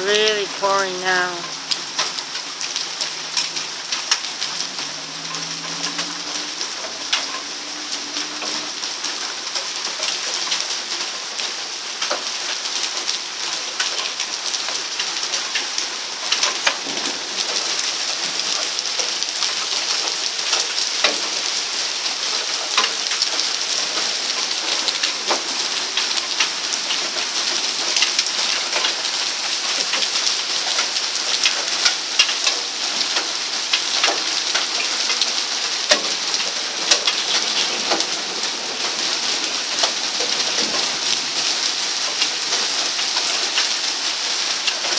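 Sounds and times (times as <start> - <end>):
heavy rain pouring: 0.0 - 44.9
raindrops tapping a surface: 0.0 - 44.9.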